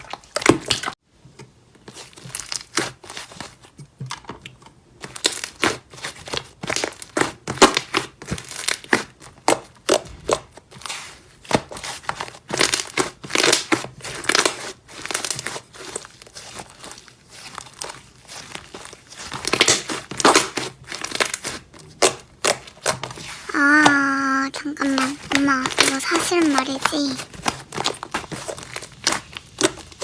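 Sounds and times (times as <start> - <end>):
slime squishing by hand: 1.8 - 30.0.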